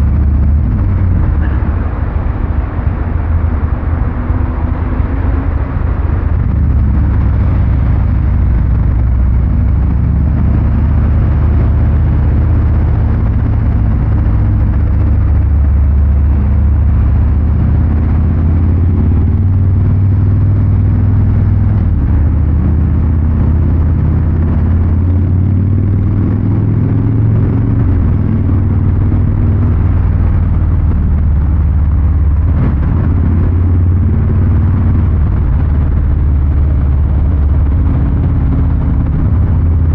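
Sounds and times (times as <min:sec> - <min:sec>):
motorcycle exhaust running: 0:00.0 - 0:39.9.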